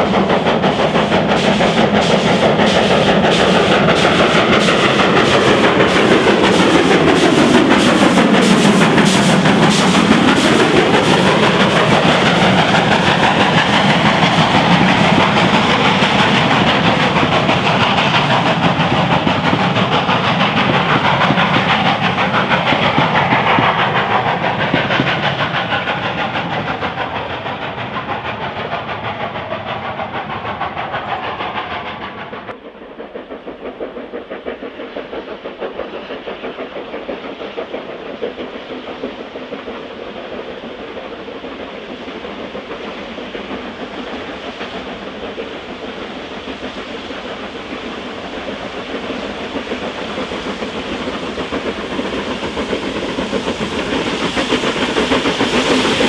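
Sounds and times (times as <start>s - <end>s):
distant steam train approaching: 0.0s - 56.0s
steam hissing: 0.0s - 56.0s
steam locomotive passing: 0.0s - 56.0s.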